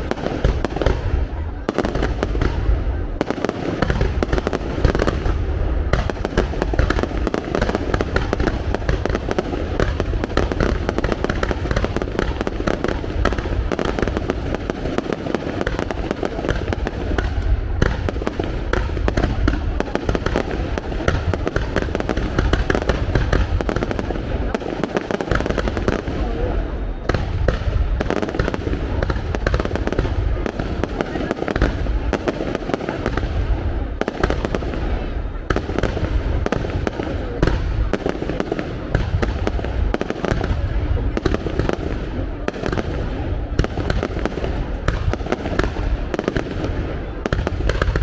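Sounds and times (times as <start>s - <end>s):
deep fireworks booms: 0.0s - 48.0s
fireworks bangs and crackles: 0.0s - 48.0s.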